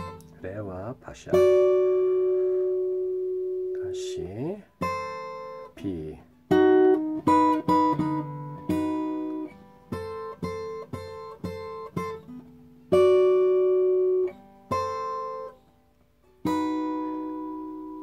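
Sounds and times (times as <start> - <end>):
fingerstyle acoustic guitar: 0.0 - 18.0.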